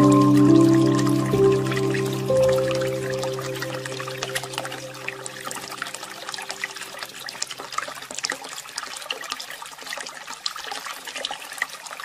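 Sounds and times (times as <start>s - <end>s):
water flowing and splashing: 0.0s - 12.0s.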